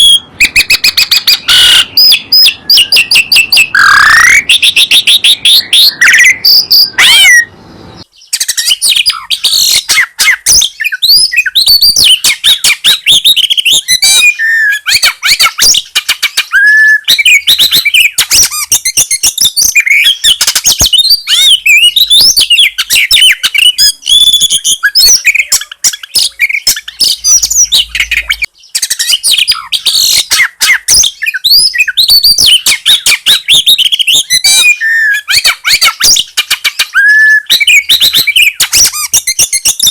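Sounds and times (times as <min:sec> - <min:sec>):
songbirds chirping and whistling: 0:00.0 - 0:39.9.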